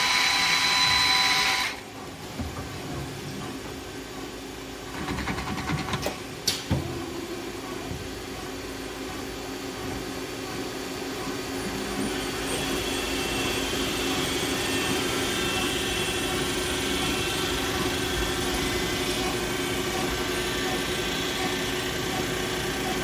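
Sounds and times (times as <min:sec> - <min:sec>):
lathe mechanical hum: 0:00.0 - 0:23.0.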